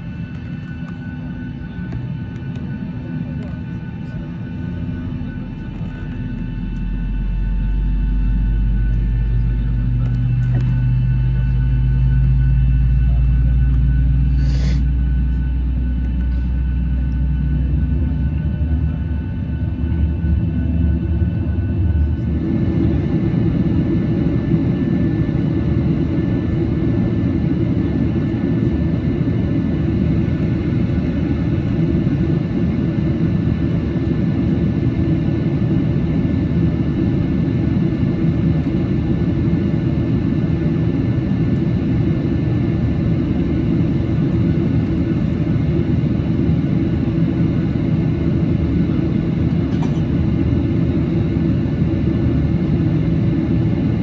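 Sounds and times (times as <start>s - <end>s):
airplane rumble: 0.0s - 54.0s.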